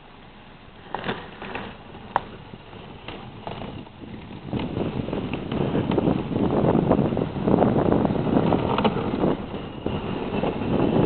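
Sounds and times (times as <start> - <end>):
rush of snow and wind: 0.0 - 11.0
sled knocks and clicks: 0.8 - 11.0.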